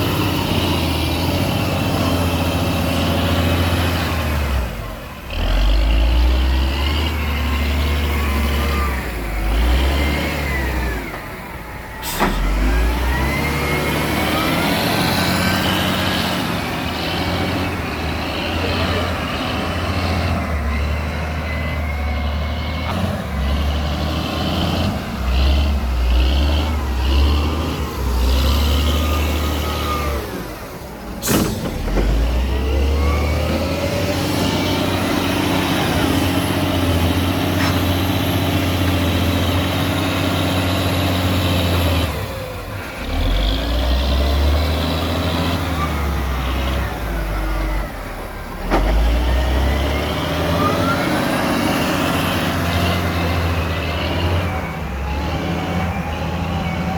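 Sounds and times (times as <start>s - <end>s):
heavy diesel engines working: 0.0s - 56.9s.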